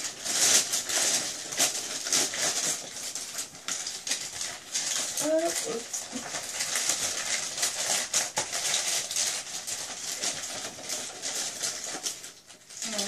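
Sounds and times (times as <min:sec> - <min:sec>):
tissue paper rustling and crinkling: 0:00.0 - 0:13.0.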